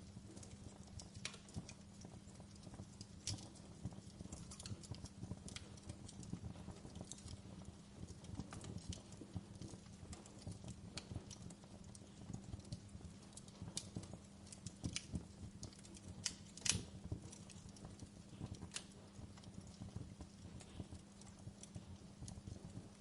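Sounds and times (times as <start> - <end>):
campfire crackling: 0.0 - 23.0
faint low hum: 0.0 - 23.0.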